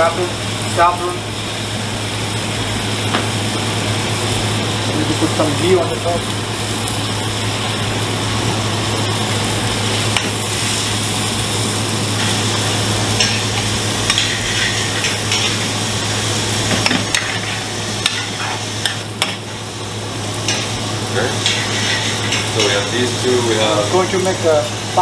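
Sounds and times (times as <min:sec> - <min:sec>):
food sizzling in pans: 0:00.0 - 0:25.0.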